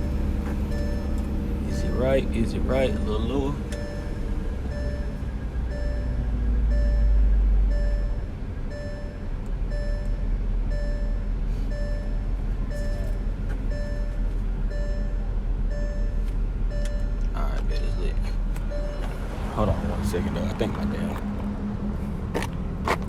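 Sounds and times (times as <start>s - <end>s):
car engine rumble: 0.0s - 23.0s
car warning chime beeping: 0.0s - 23.0s.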